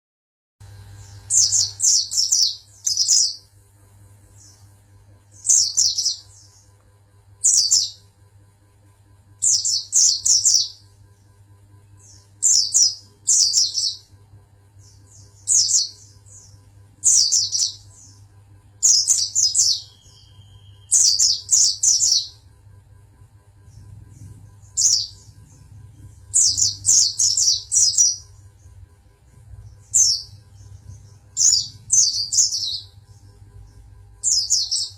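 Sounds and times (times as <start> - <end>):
steady low hum: 0.6 - 34.9
bird chirping: 0.8 - 3.6, 4.2 - 6.8, 7.4 - 8.1, 9.4 - 22.6, 23.2 - 34.9.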